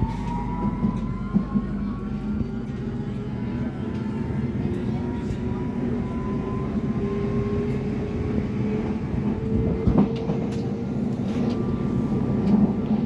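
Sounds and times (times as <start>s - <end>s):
train rumble on rails: 0.0s - 13.0s.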